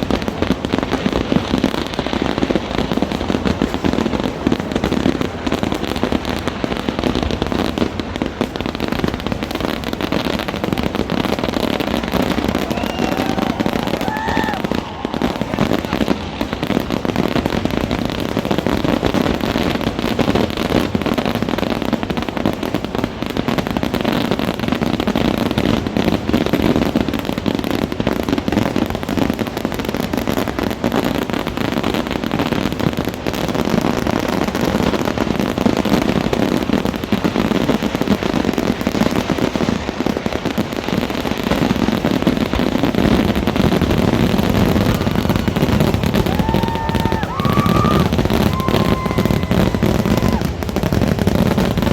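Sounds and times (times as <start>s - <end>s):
fireworks barrage: 0.0s - 51.9s.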